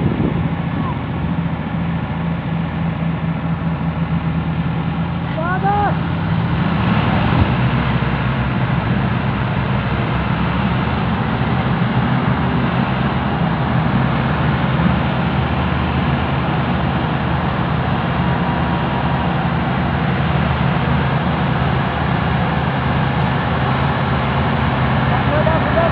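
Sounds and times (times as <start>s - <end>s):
tractor diesel engines under load: 0.0s - 25.9s.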